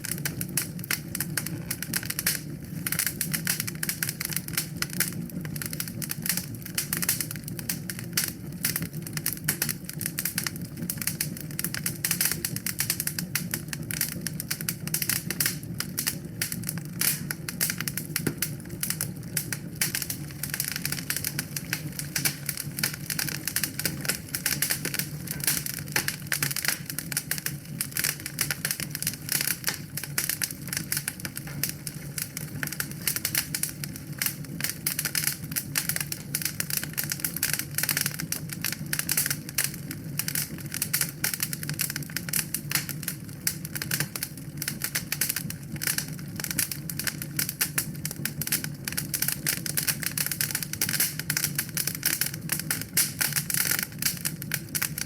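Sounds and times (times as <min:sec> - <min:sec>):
low rumble of burning: 0:00.0 - 0:55.0
wood fire crackling: 0:00.0 - 0:55.0.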